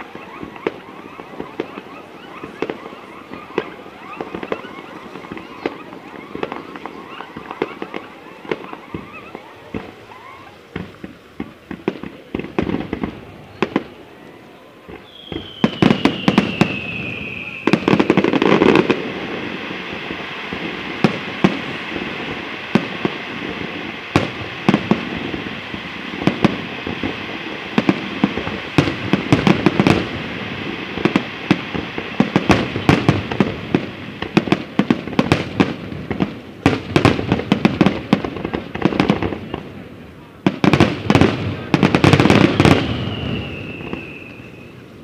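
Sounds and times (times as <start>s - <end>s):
crackling hiss of fireworks: 0.0s - 45.0s.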